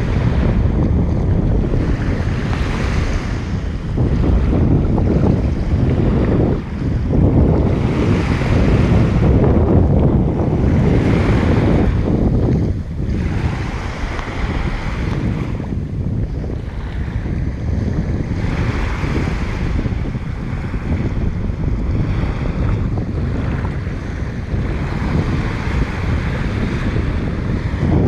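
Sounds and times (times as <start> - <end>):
waves washing onto beach: 0.0 - 28.0
wind buffeting microphone: 0.0 - 28.0.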